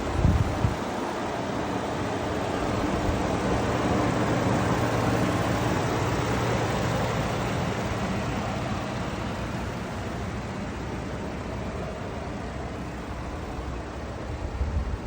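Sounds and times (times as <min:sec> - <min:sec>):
steady machine noise: 0:00.0 - 0:15.0.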